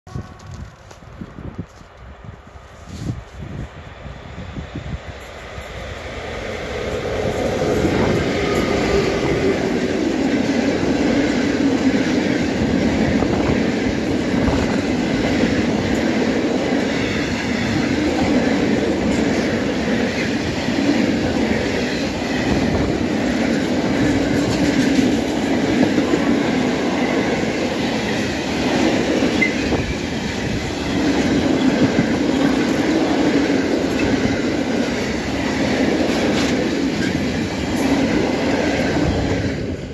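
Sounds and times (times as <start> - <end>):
freight train wheels rolling on rails: 0.1 - 39.9.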